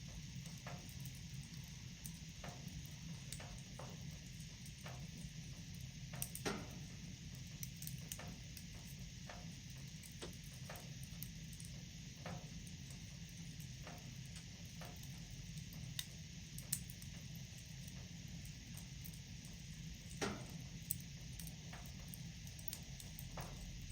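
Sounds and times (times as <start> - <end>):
fire hissing: 0.0 - 23.9
wood fire pops and snaps: 0.2 - 23.9.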